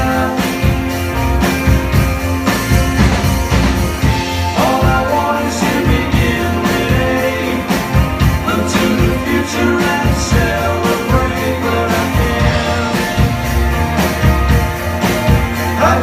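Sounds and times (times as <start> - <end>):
bass guitar: 0.0 - 16.0
drum kit beat: 0.0 - 16.0
electric guitars: 0.0 - 16.0.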